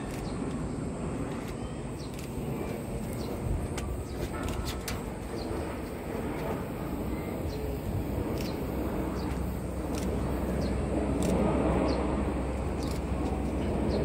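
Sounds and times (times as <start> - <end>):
distant jet roar: 0.0 - 14.0.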